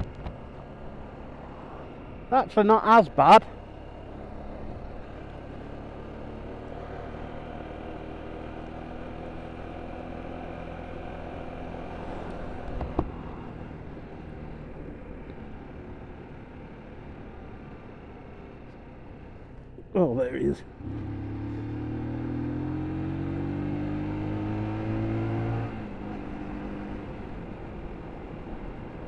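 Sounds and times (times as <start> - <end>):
low wind rumble: 0.0 - 20.0, 20.6 - 29.0
motorcycle engine cruising: 0.0 - 29.0.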